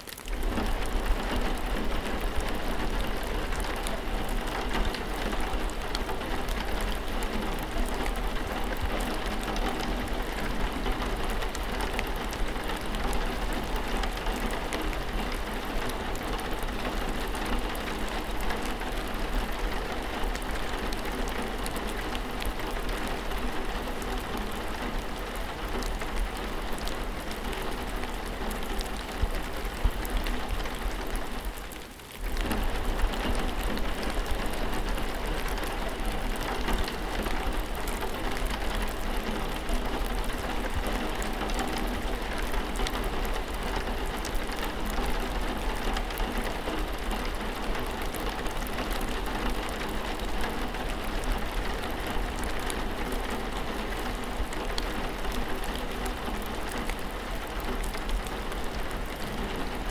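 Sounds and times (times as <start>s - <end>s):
rain drops ticking on a surface: 0.0s - 59.9s.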